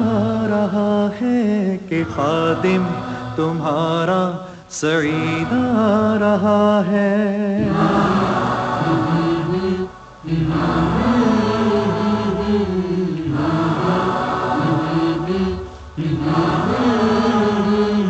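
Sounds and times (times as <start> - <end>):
male voices chanting: 0.0 - 7.0, 7.6 - 18.0.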